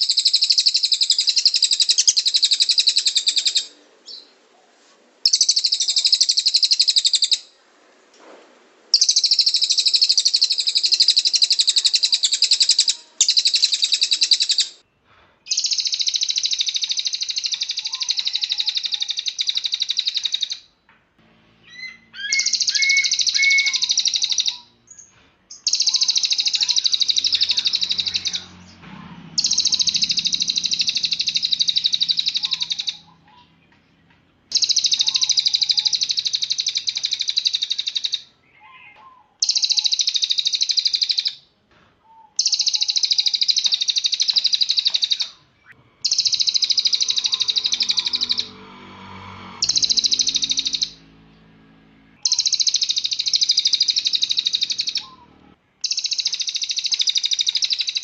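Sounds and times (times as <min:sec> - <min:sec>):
songbird high-pitched trills: 0:00.0 - 0:04.3, 0:05.2 - 0:07.5, 0:09.0 - 0:14.8, 0:15.5 - 0:20.7, 0:21.6 - 0:28.8, 0:29.4 - 0:41.4, 0:42.2 - 0:48.6, 0:49.6 - 0:51.1, 0:52.2 - 0:58.0.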